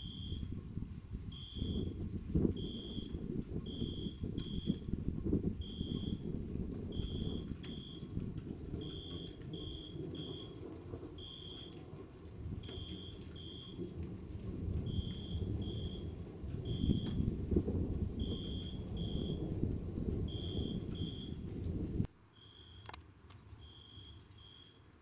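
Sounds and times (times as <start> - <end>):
distant thunder rumble: 0.0 - 22.1.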